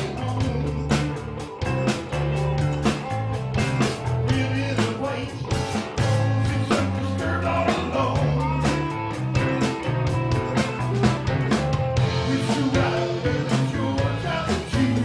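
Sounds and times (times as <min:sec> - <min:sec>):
bending guitar line: 0:00.0 - 0:15.0
drum kit beat: 0:00.0 - 0:15.0
electric bass notes: 0:00.0 - 0:15.0
electric guitars: 0:00.0 - 0:15.0.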